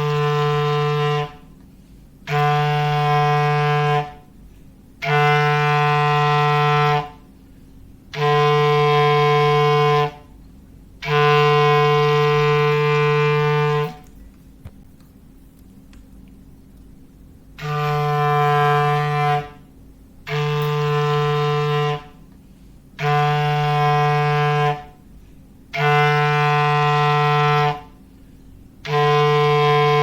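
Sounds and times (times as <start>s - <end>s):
low foghorn blasts: 0.0s - 7.4s, 8.1s - 10.4s, 11.0s - 14.1s, 17.6s - 28.1s, 28.7s - 30.0s.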